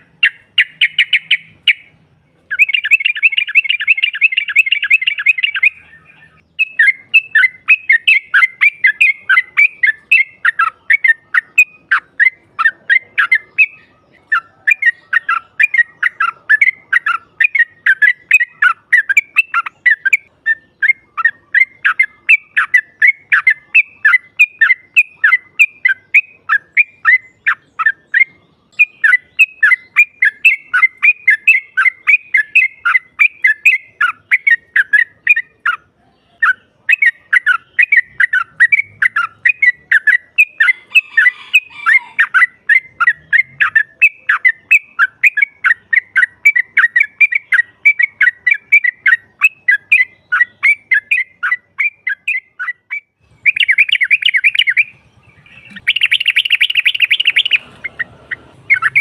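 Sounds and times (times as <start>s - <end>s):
bird chattering: 0.0s - 59.0s
bird chirping: 0.0s - 59.0s.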